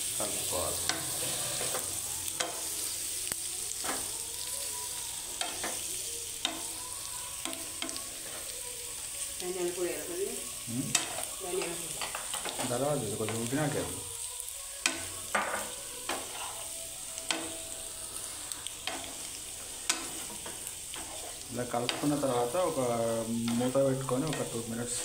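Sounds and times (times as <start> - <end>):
frying sizzle: 0.0 - 25.0.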